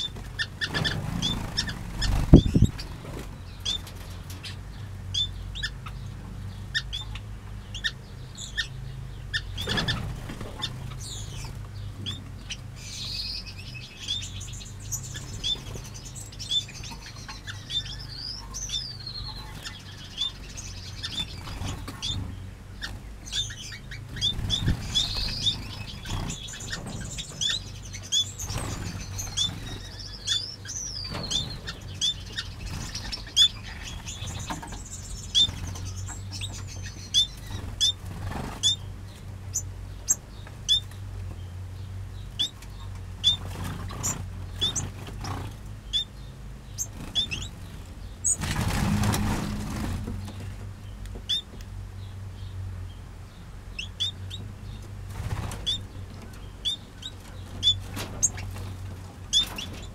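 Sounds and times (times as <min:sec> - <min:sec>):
bird warbling song: 0:00.0 - 0:59.9
finches chirping: 0:00.0 - 0:59.9
steady low hum: 0:00.0 - 0:59.9.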